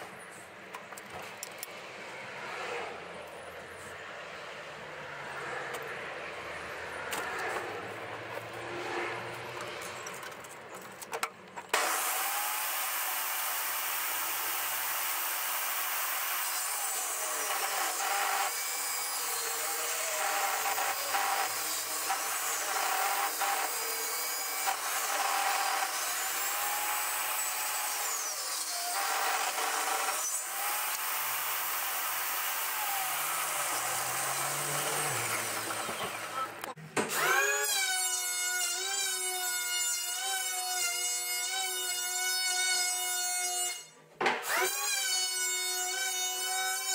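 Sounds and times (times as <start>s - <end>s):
table saw ripping timber: 8.6s - 46.9s.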